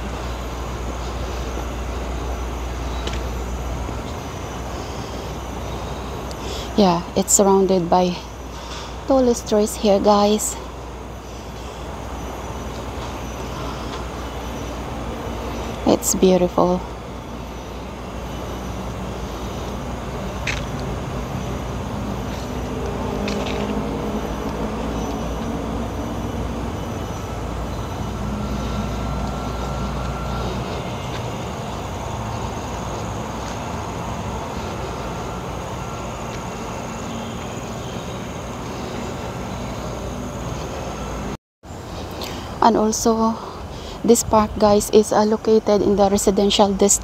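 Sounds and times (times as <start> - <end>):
faint engine hum: 0.0 - 47.0
road traffic rumble: 0.0 - 47.0.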